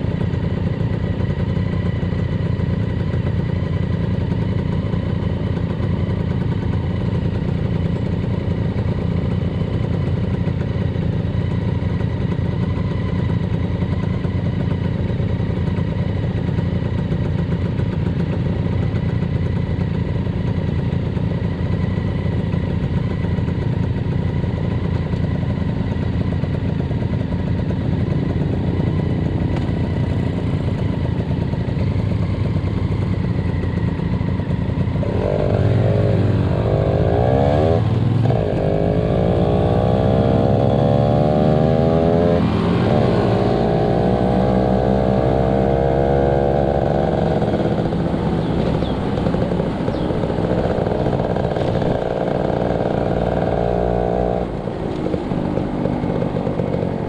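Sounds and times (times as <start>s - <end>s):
motorcycle engine rumbling and revving: 0.0s - 57.0s.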